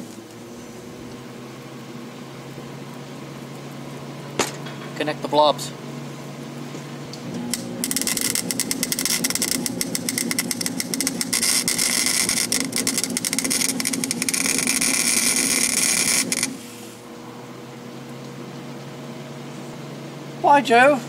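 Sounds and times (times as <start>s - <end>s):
welding arc crackling sizzle: 0.0s - 19.8s
steady low hum: 0.0s - 21.0s.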